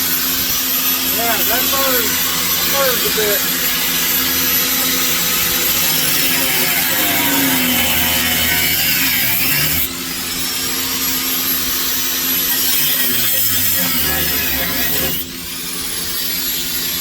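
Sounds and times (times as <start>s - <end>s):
angle grinder cutting metal: 0.0s - 17.0s.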